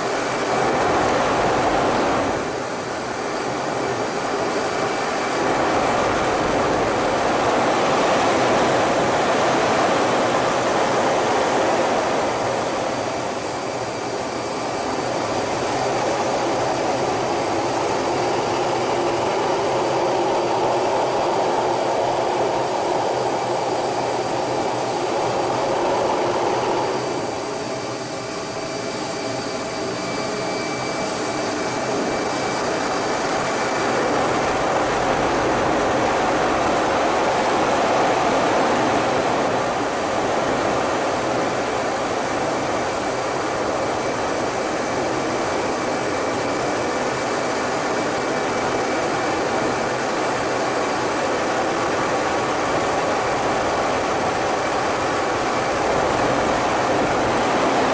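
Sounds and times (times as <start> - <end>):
jet engines droning: 0.0 - 57.9.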